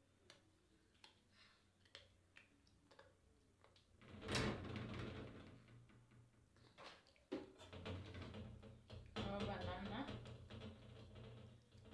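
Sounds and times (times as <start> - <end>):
clicks and rustles: 1.8 - 11.9.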